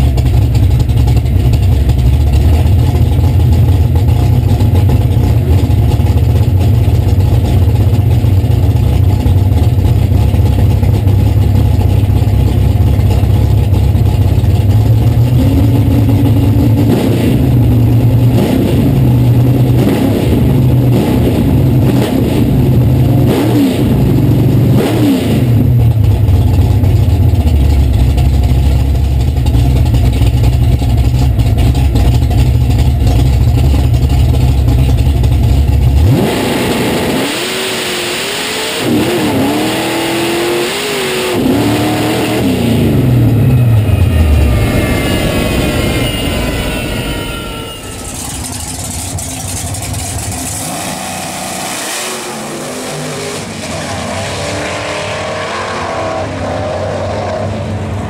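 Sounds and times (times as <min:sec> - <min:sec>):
drag car engine rumbling and revving: 0:00.0 - 0:58.0.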